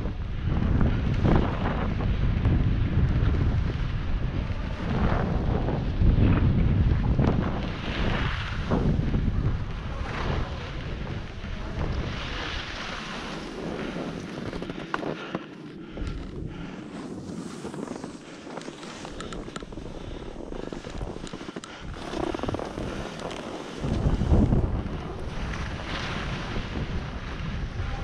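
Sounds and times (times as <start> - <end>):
wind buffeting microphone: 0.0 - 28.0
skis scraping over snow: 0.3 - 28.0.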